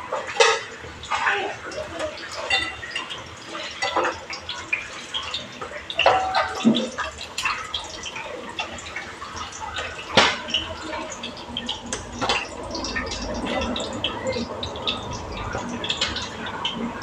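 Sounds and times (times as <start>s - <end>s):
fish frying in oil: 0.0s - 17.0s.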